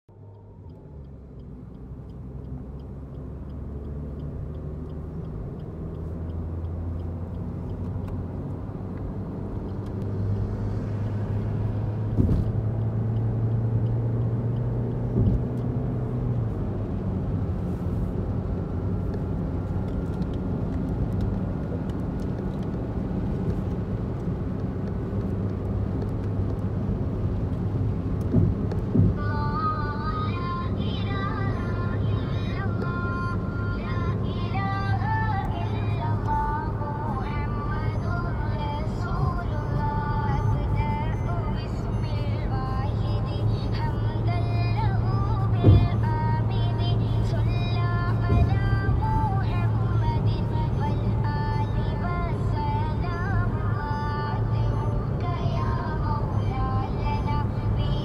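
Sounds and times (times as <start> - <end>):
car cabin road noise: 0.1 - 58.0.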